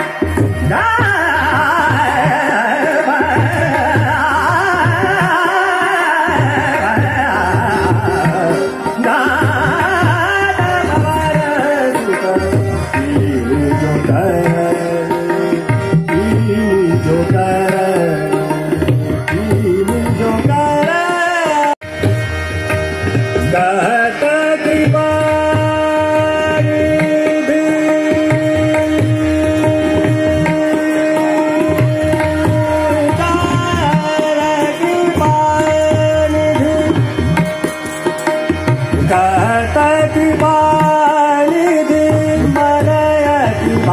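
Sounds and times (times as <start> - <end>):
harmonium: 0.0 - 43.9
tabla drumming: 0.0 - 43.9.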